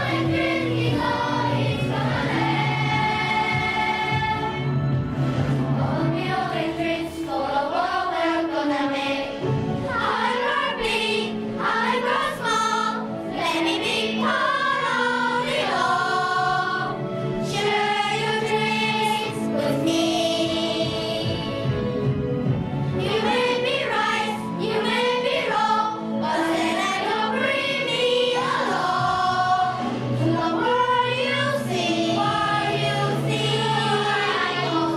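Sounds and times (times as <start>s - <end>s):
children's choir singing: 0.0s - 21.9s, 22.9s - 34.9s.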